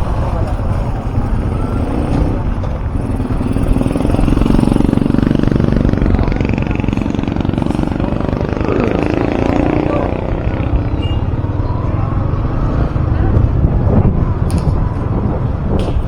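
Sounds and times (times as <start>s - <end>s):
motorcycle engine running: 0.0s - 15.6s
road and wind noise: 0.0s - 16.0s.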